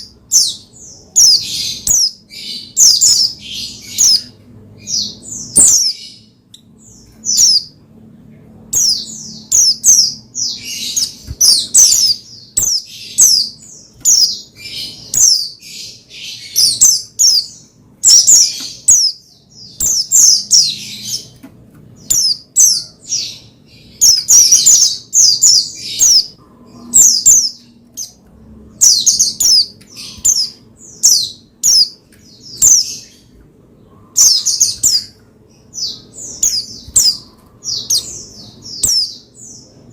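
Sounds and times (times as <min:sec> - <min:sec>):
bird singing high chirps: 0:00.0 - 0:07.8, 0:08.7 - 0:21.4, 0:22.0 - 0:39.9.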